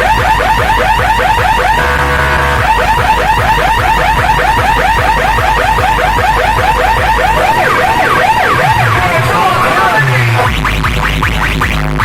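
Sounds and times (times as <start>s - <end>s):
rising alarm siren chirps: 0.0s - 10.5s
deep bass hum: 0.0s - 12.0s.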